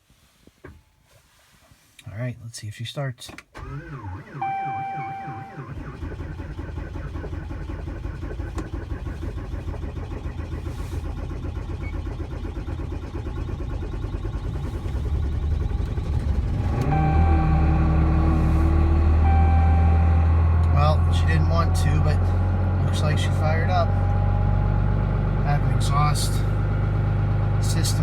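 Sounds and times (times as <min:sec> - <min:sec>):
diesel engine cranking on starter: 0:03.4 - 0:28.0
diesel engine running steadily: 0:04.4 - 0:28.0.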